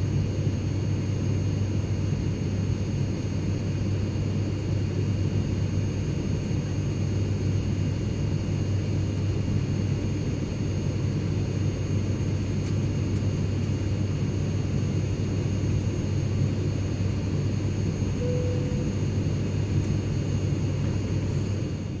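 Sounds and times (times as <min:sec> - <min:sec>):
faint high jet engine whines: 0:00.0 - 0:22.0
jet cabin drone: 0:00.0 - 0:22.0.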